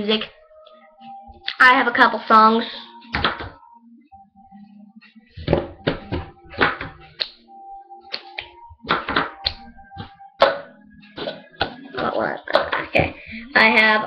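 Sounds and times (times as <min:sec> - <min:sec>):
song playing quietly: 0:00.0 - 0:14.0.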